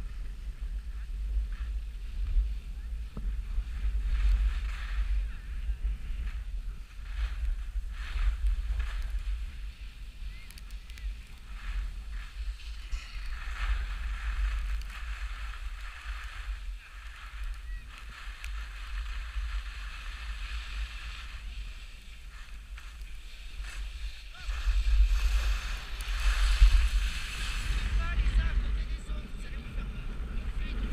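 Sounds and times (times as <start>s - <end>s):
skis hissing on snow: 0.0s - 29.9s
wind buffeting microphone: 0.0s - 30.9s.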